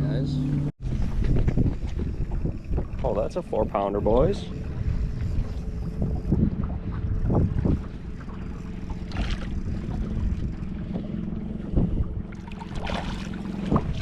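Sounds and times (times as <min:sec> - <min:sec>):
boat motor humming: 0:00.0 - 0:14.0
wind buffeting microphone: 0:00.8 - 0:14.0.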